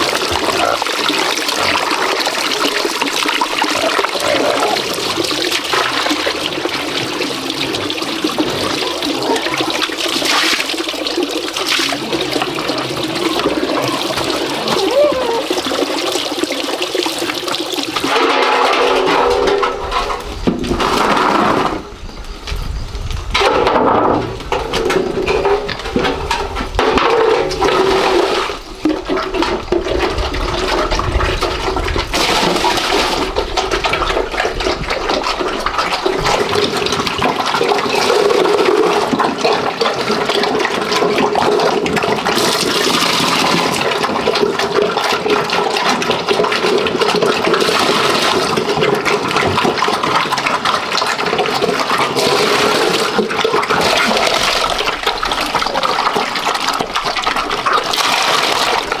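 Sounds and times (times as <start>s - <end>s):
water running and splashing: 0.0s - 59.0s.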